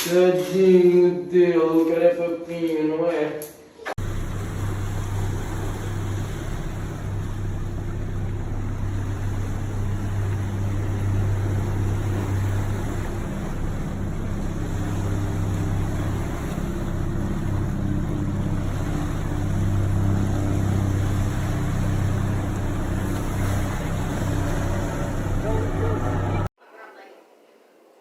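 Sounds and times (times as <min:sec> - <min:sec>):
engine droning hum: 0:04.0 - 0:26.5.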